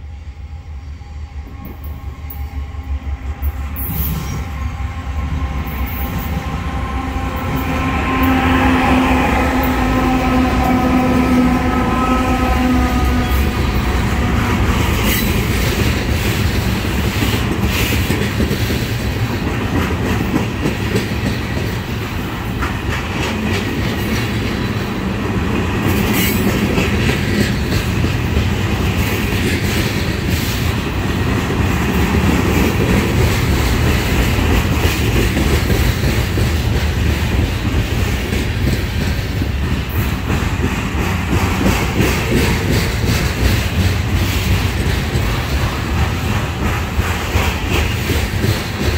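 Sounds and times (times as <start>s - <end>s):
rumble of train wheels on rails: 0.0s - 48.9s.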